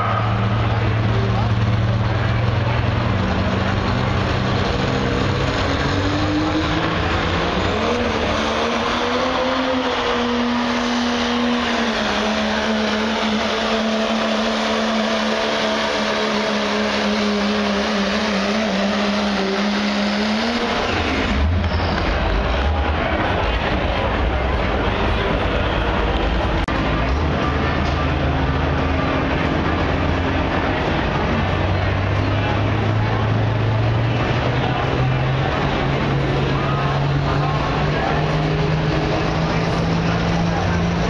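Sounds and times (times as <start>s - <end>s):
diesel truck engine at full throttle: 0.0s - 41.0s.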